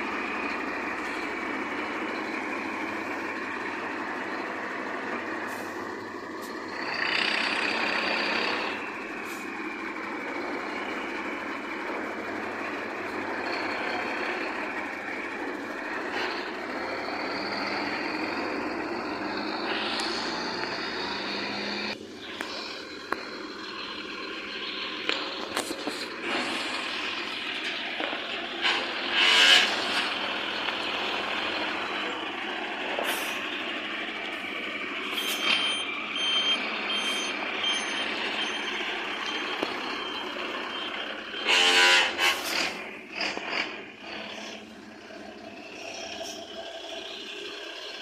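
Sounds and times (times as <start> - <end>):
heavy truck running: 0.0 - 48.0.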